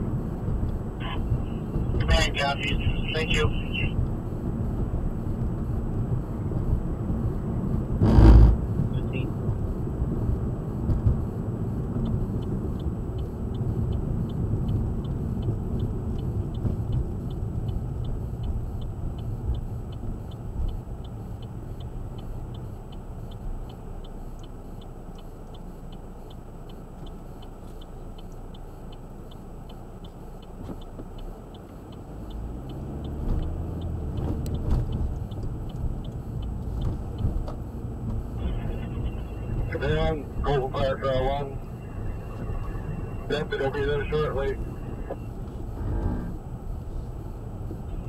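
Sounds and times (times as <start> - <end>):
road and engine rumble: 0.0 - 48.0
faint regular ticking: 0.1 - 48.0.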